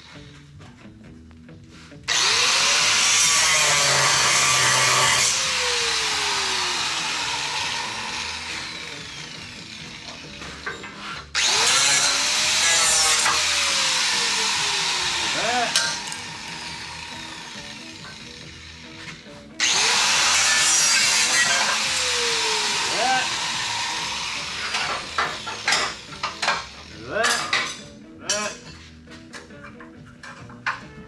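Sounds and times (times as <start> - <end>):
angle grinder cutting steel: 2.1 - 28.7.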